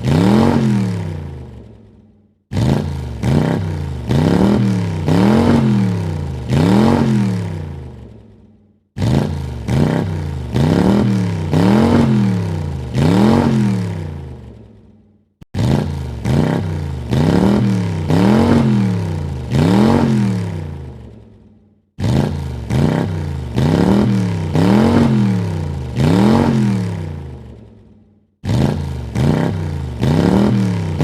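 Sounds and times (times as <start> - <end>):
car engine revving: 0.0 - 1.9, 2.5 - 8.4, 9.0 - 14.7, 15.5 - 21.3, 22.0 - 27.6, 28.4 - 31.0.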